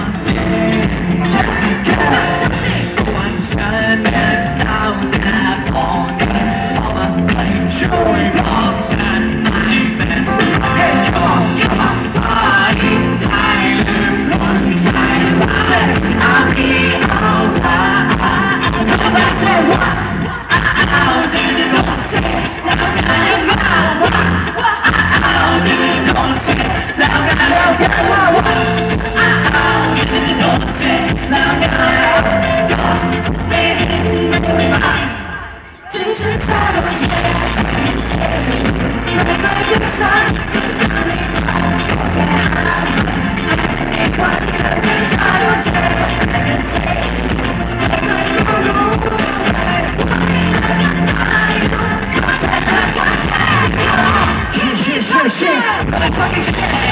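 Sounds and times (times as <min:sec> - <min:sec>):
live pop song through loudspeakers: 0:00.0 - 0:56.9.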